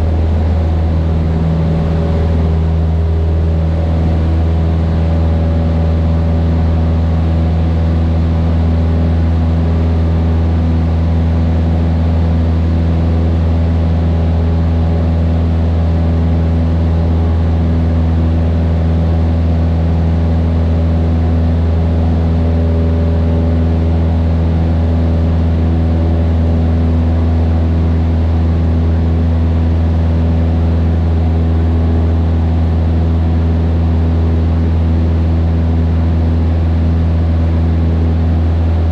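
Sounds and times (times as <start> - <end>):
airplane engine droning: 0.0 - 38.9.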